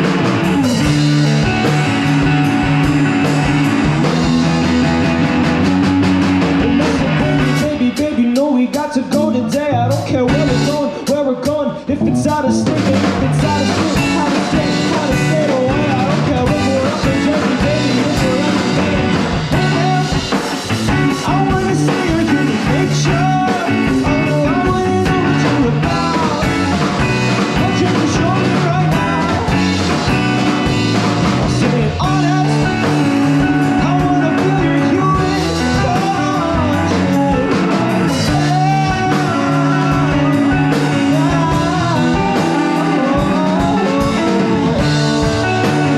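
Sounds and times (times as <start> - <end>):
electric guitar: 0.0 - 45.9
rock band playing live: 0.0 - 45.9.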